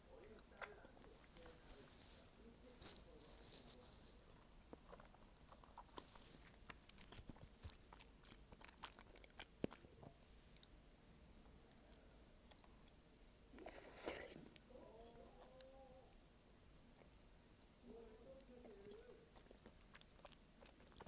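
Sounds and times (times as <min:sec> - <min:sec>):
person chewing food: 0:00.1 - 0:16.3, 0:17.8 - 0:21.0.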